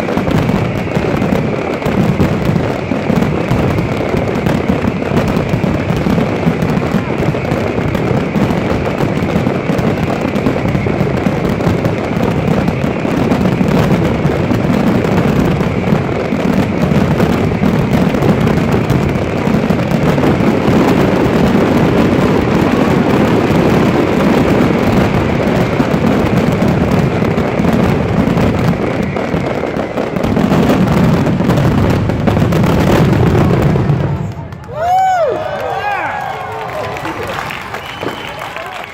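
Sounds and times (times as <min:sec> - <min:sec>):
firework explosions: 0:00.0 - 0:38.9.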